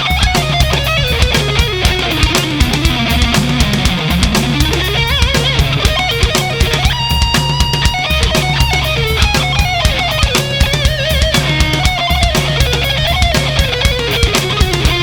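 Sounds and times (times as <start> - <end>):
lead electric guitar melody: 0.0 - 15.0
steady drum beat: 0.0 - 15.0.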